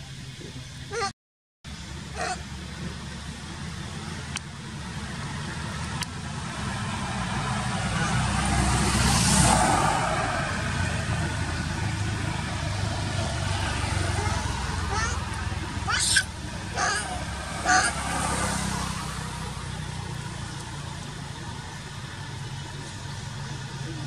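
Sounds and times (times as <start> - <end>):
vehicle passing by: 2.0 - 24.0.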